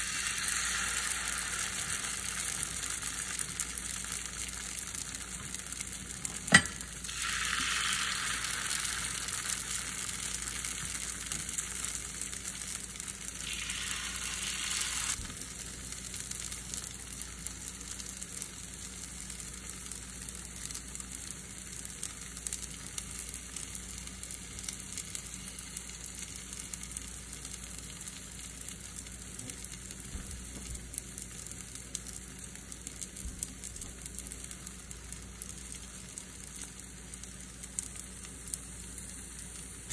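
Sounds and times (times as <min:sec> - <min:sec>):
pancakes sizzling in a pan: 0:00.0 - 0:39.9.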